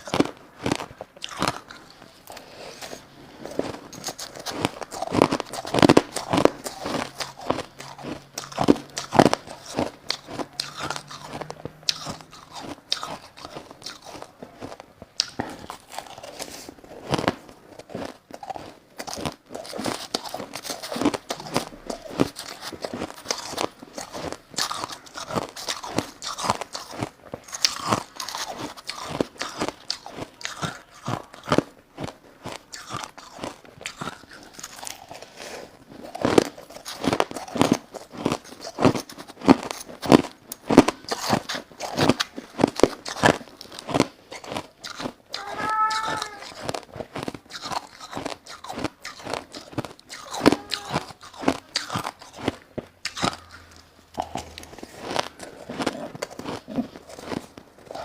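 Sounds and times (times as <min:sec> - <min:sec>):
crushed ice being chewed: 0:00.0 - 0:58.0.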